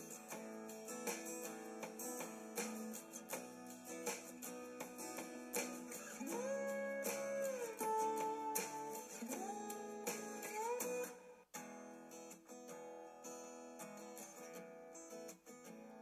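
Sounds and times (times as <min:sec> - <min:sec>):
acoustic guitar strummed and plucked: 0:00.0 - 0:16.0.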